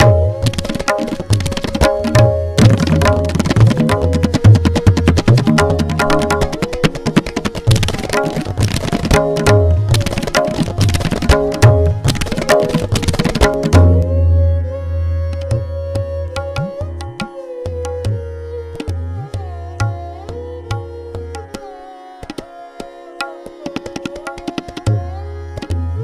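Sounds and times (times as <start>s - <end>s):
bowed string melody: 0.0s - 26.0s
tabla strokes: 0.0s - 26.0s.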